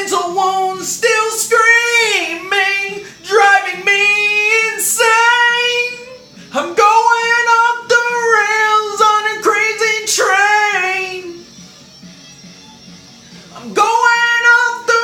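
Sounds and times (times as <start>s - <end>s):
high voice singing: 0.0s - 11.5s, 13.5s - 15.0s
quiet backing track: 0.0s - 15.0s.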